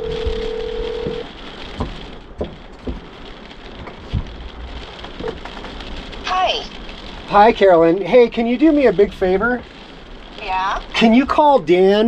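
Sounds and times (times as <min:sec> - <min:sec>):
torrential rain: 0:00.0 - 0:12.0.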